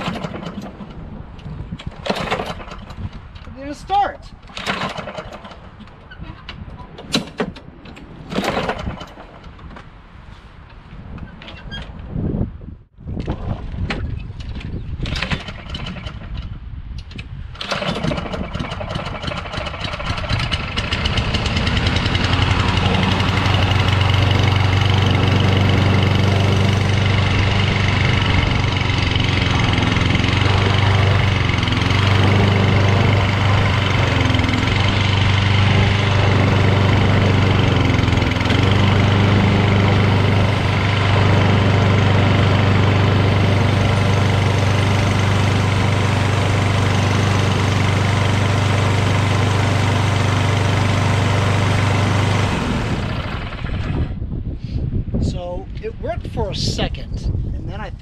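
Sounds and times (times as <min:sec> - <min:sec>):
lawn mower engine pull-started: 0:00.0 - 0:03.8, 0:04.4 - 0:09.8, 0:13.3 - 0:54.2.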